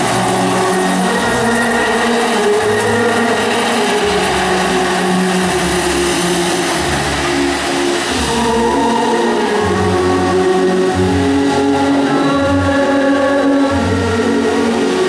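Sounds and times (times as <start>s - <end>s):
firework fountain hissing: 0.0s - 15.0s
music with long held notes: 0.0s - 15.0s.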